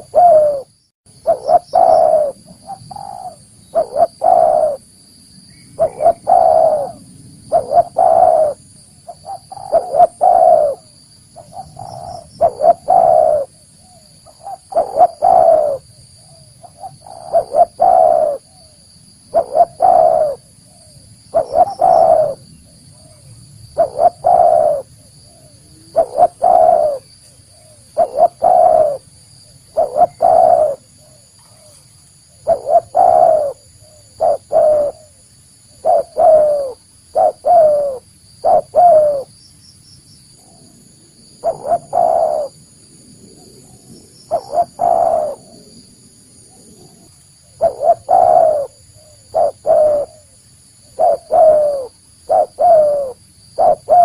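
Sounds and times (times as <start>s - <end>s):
dove cooing: 0.0s - 4.9s, 5.8s - 39.3s, 40.4s - 42.7s, 43.3s - 45.8s, 46.4s - 54.0s.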